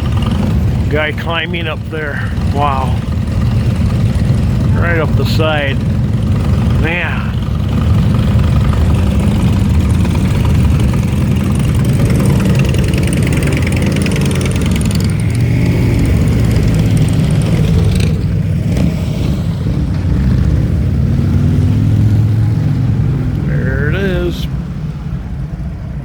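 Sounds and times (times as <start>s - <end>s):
vehicle engine low rumble: 0.0s - 26.0s.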